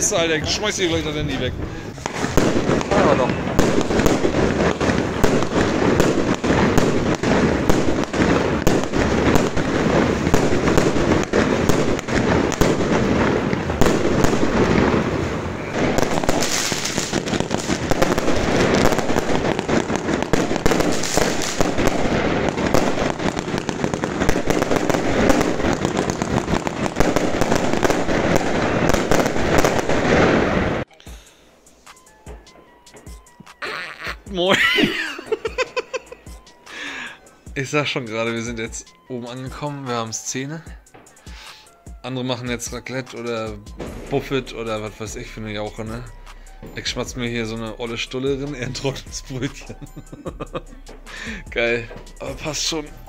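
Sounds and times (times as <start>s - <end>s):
fireworks and firecrackers crackling: 0.0s - 53.0s.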